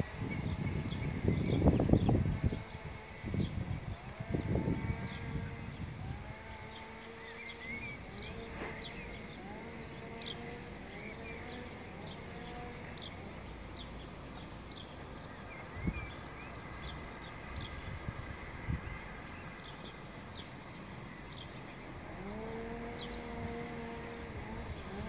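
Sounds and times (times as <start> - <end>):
faint drawn-out whining tones: 0.0 - 25.0
small birds chirping: 0.0 - 25.0.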